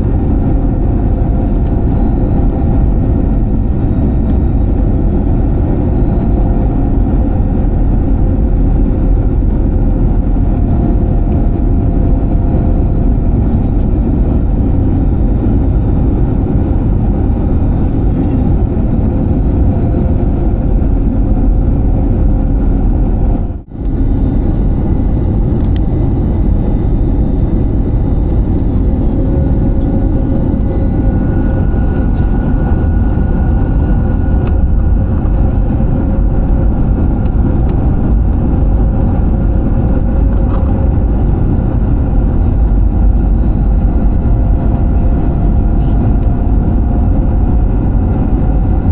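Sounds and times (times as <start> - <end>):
airliner engine and airflow rumble: 0.0 - 48.9.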